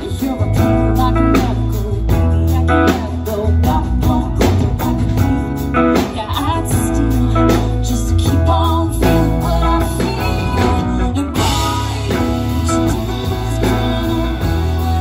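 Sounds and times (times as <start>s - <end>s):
drum kit: 0.0s - 15.0s
electric bass: 0.0s - 15.0s
electric guitar: 0.0s - 15.0s
keyboard: 0.0s - 15.0s
woman singing: 0.0s - 15.0s.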